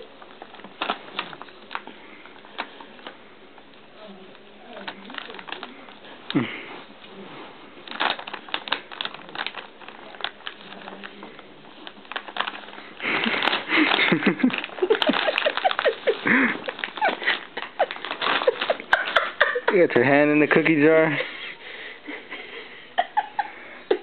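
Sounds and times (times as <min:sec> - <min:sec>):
plastic bag crinkling: 0:00.0 - 0:21.2.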